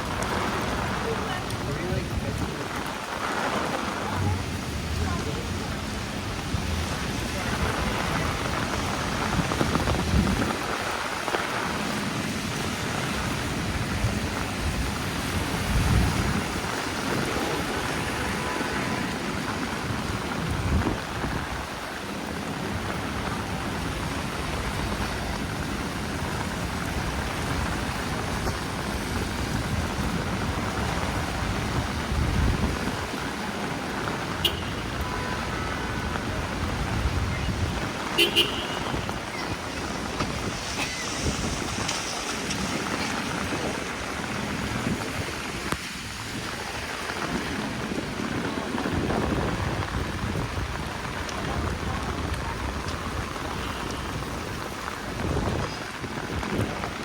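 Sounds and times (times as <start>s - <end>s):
heavy rain on street: 0.0s - 57.0s.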